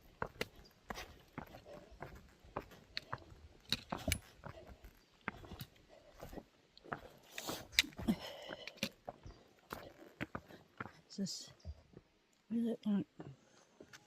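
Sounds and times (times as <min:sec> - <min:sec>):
footsteps crunching on trail: 0:00.0 - 0:12.1.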